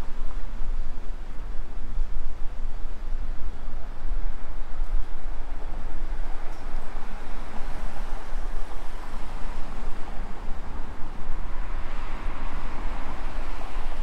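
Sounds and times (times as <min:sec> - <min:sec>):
broad outdoor noise: 0:00.0 - 0:14.0.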